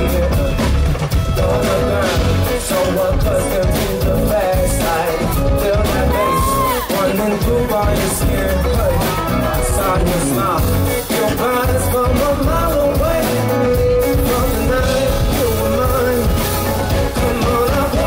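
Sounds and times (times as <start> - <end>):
man singing into microphone: 0.0 - 18.0
rock band playing: 0.0 - 18.0.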